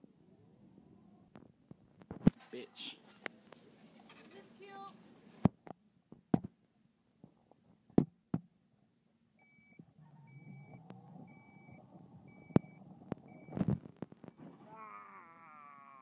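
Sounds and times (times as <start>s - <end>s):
low store background hum: 0.0s - 7.2s, 8.2s - 16.0s.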